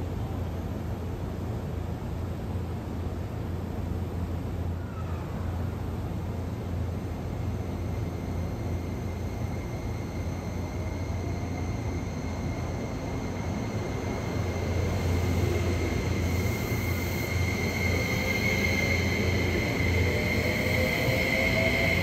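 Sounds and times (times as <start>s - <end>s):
electric train humming and whining: 0.0s - 22.0s.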